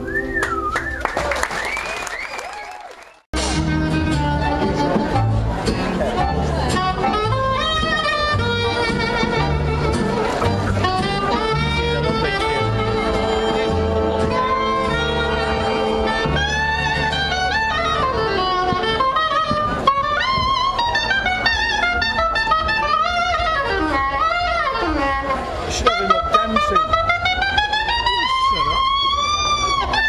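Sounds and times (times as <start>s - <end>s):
bass line: 3.3s - 30.0s
jazz band playing dance music: 3.3s - 30.0s
brass and saxophone lines: 3.4s - 30.0s.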